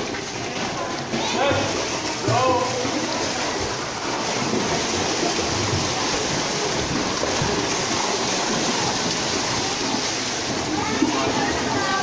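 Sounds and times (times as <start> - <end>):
children splashing in pool: 0.0 - 12.0.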